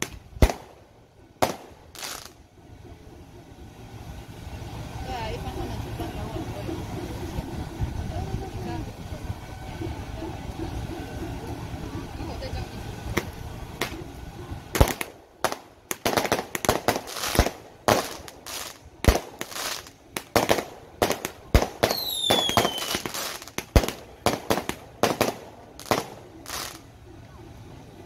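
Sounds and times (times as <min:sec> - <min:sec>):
firecrackers banging: 0:00.0 - 0:02.5, 0:03.8 - 0:27.1.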